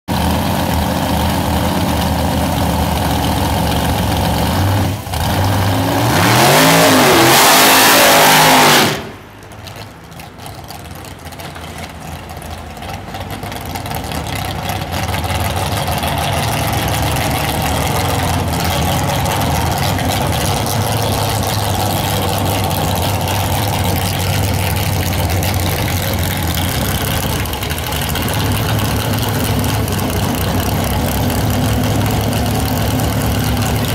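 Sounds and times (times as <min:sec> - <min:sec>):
engine idling and revving: 0:00.1 - 0:33.9.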